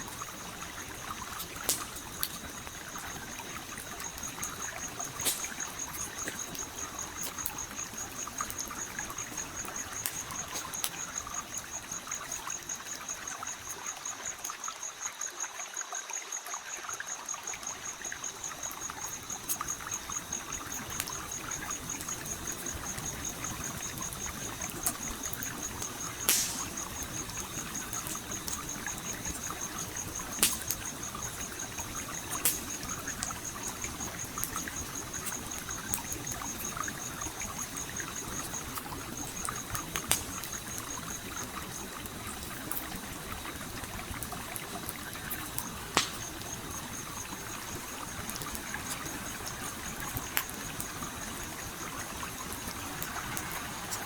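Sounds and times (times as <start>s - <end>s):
campfire crackling: 0.0s - 14.7s, 17.4s - 54.0s
stream flowing: 0.0s - 54.0s.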